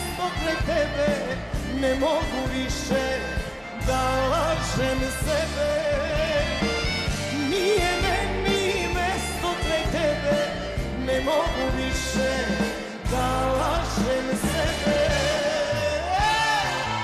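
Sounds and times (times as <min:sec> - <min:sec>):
band with bass beat: 0:00.0 - 0:17.0.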